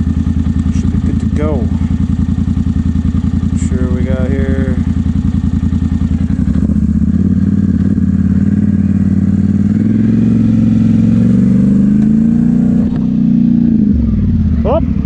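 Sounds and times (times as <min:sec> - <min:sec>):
atv engine accelerating: 0:00.0 - 0:15.0.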